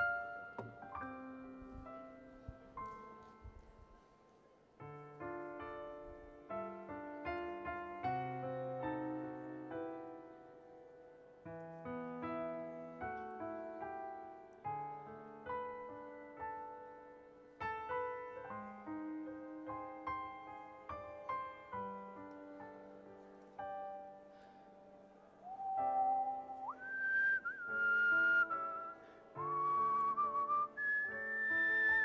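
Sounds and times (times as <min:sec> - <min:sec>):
slow gentle piano piece: 0:00.0 - 0:32.0.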